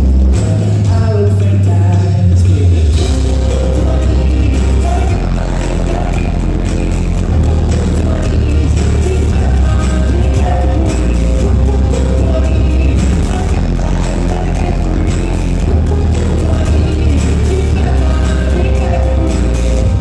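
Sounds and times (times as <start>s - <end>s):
live band playing: 0.0s - 20.0s
man singing: 0.0s - 20.0s.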